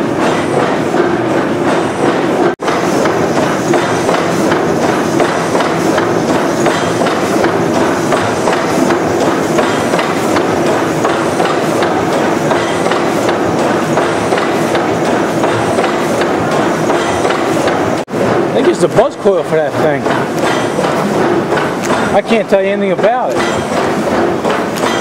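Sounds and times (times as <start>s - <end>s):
gas engine clattering: 0.0s - 25.0s.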